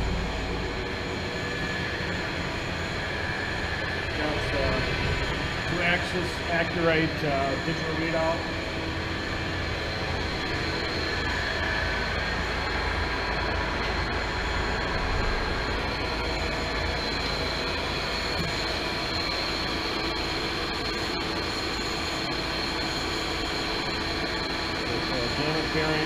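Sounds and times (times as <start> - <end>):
lathe whirring with high whine: 0.0 - 26.0.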